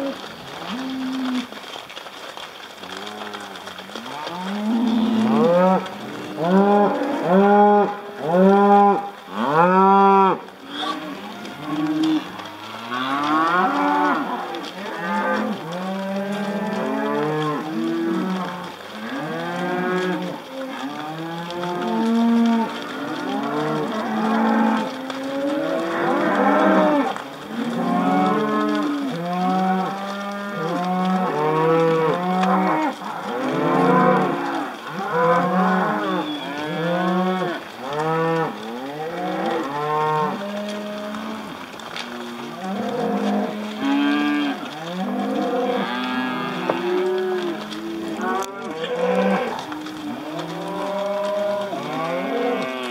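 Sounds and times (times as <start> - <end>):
cattle mooing: 0.0 - 1.5, 2.9 - 52.9.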